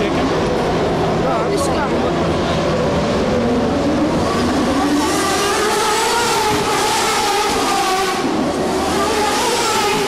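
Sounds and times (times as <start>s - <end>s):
race car engines passing: 0.0s - 10.0s.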